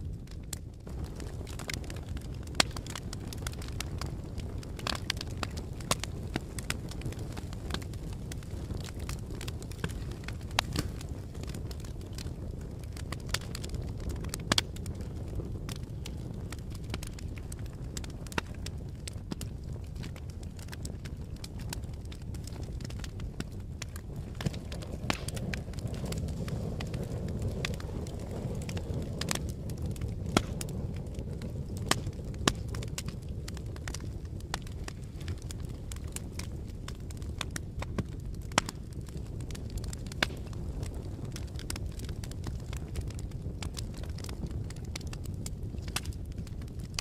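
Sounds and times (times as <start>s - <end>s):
fire crackling and popping: 0.0s - 47.0s.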